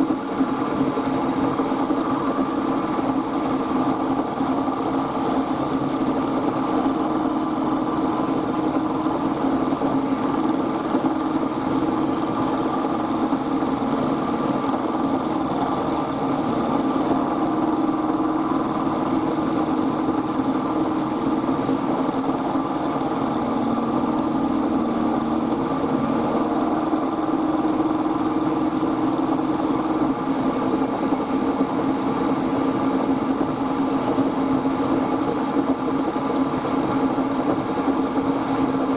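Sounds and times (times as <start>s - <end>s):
workshop machine motor hum: 0.0s - 35.0s.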